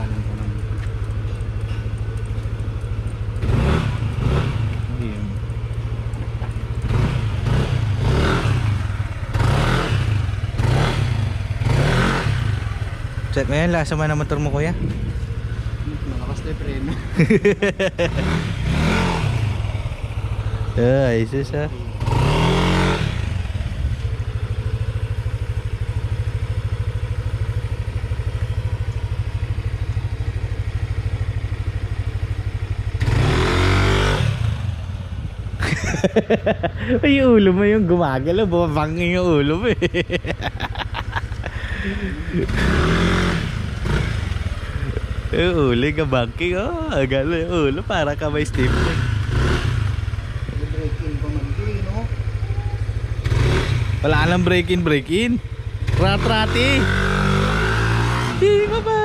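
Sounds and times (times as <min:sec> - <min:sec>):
scooter engine revving: 0:00.0 - 0:59.0.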